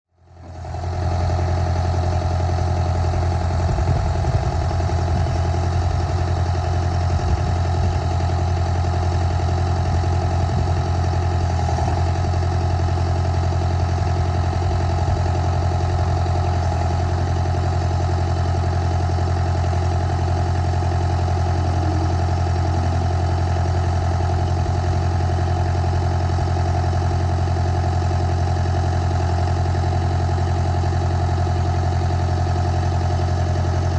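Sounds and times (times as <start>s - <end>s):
loader engine idling: 0.2s - 33.9s.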